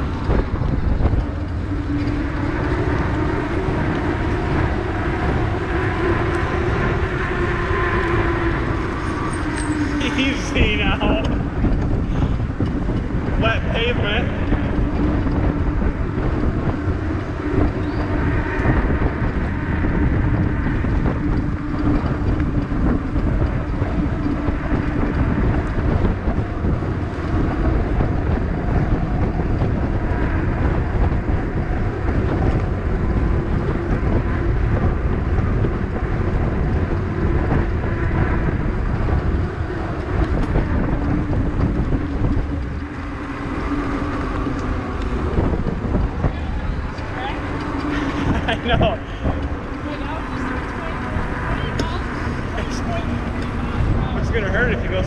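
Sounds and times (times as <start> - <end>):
electric bike hum: 0.0 - 55.0
wind buffeting microphone: 0.0 - 55.0.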